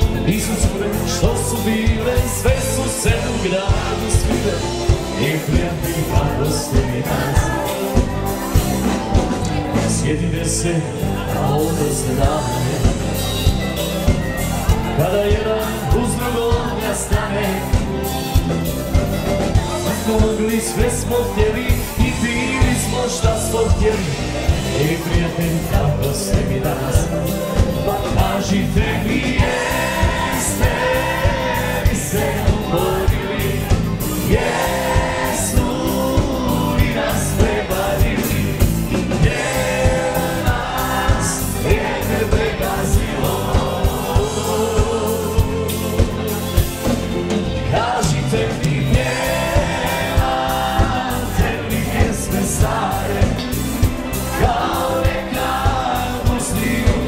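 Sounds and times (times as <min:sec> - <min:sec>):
crowd singing along: 0:00.0 - 0:57.0
live dance band playing: 0:00.0 - 0:57.0.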